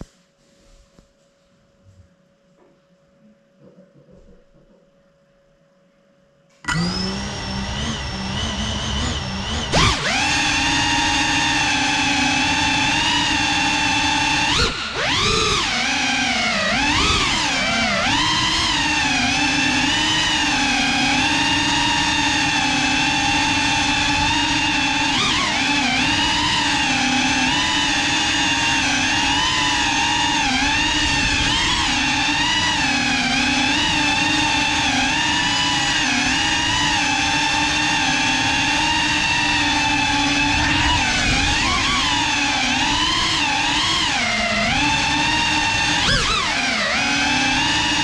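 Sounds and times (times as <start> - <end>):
quadcopter propellers whining: 6.7 - 48.0.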